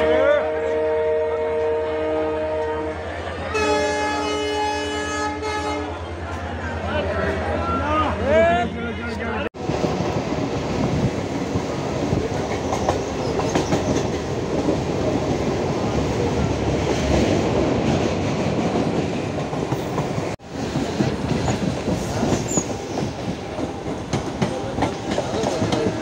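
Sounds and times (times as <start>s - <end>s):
train wheels rumbling on track: 1.5s - 26.0s.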